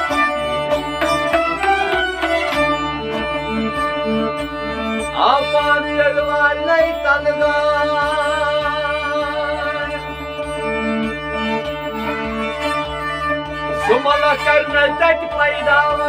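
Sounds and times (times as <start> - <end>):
harmonium chords and drone: 0.0 - 16.0
plucked string instrument: 0.0 - 16.0.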